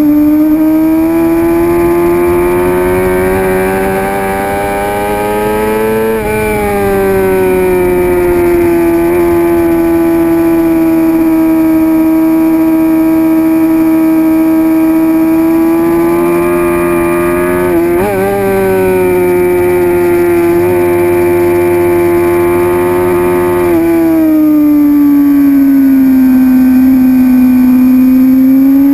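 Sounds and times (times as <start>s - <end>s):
motorcycle engine at high revs: 0.0s - 28.9s.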